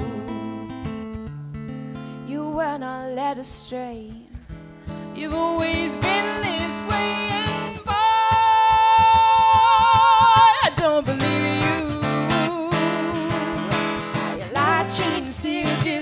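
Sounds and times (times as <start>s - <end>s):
woman singing: 0.0s - 0.9s, 2.2s - 16.0s
acoustic guitar strumming: 0.0s - 16.0s.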